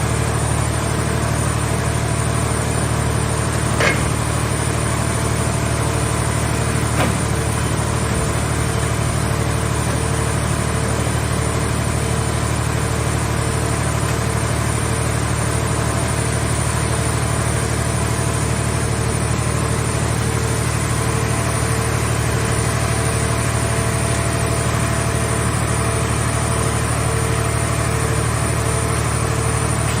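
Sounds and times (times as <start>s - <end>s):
machine power unit humming: 0.0s - 30.0s.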